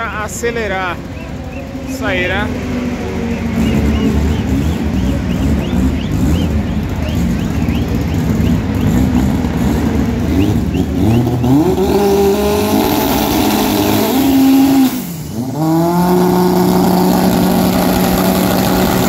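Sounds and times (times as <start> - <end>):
engine revving: 0.0 - 19.0
racing car engines running: 0.0 - 19.0.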